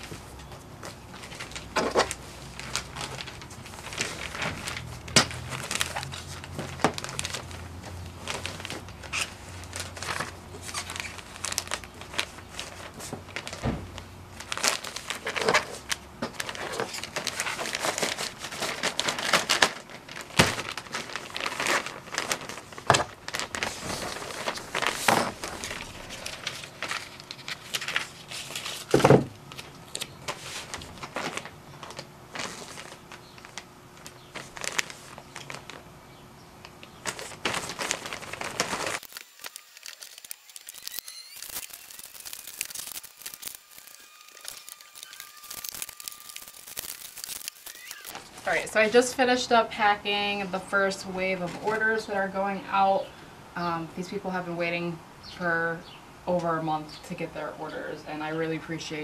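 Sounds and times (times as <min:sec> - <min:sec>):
paper sheets rustling: 0:00.0 - 0:35.8, 0:37.0 - 0:49.2
plastic mailers crinkling: 0:00.0 - 0:49.7.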